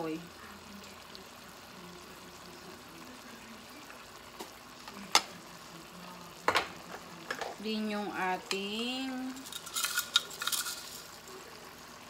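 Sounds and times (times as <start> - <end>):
faint sizzle from pot: 0.0 - 12.0.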